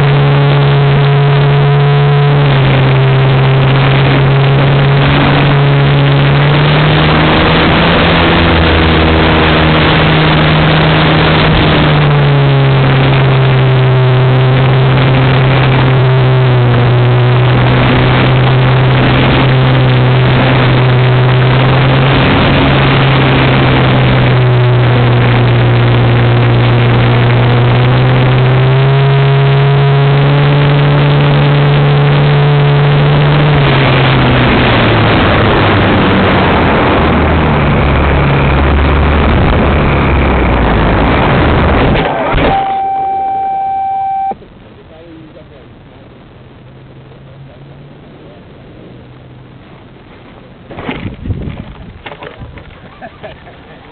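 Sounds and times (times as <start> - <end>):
electric motor and propeller whining: 0.0 - 44.4.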